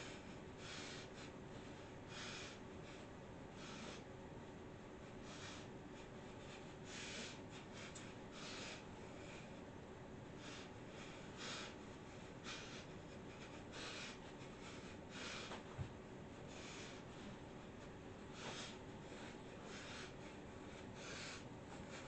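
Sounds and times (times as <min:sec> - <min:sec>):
person breathing: 0:00.0 - 0:04.1, 0:05.1 - 0:09.7, 0:10.3 - 0:22.0.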